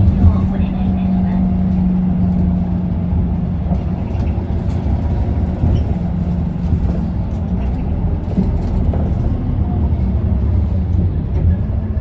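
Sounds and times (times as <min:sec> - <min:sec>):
bus diesel engine rumbling: 0:00.0 - 0:12.0.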